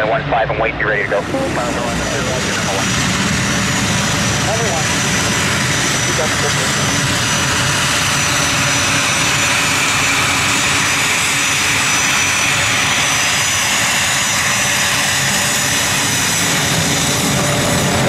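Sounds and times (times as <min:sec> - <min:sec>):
jet engines whining at taxi power: 0:00.0 - 0:18.0.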